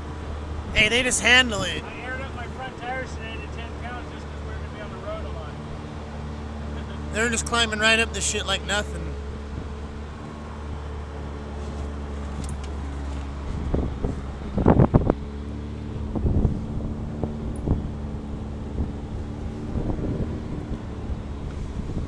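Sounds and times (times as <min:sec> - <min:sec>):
off-road vehicle engine pulling: 0:00.0 - 0:22.0.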